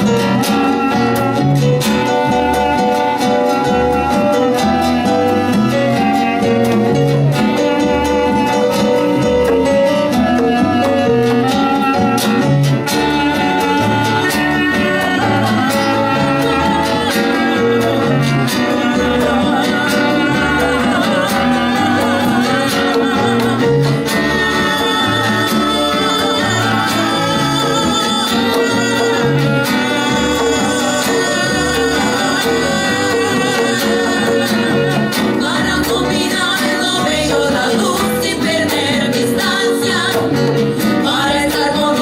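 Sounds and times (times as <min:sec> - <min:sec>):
live band playing latin song: 0:00.0 - 0:42.0.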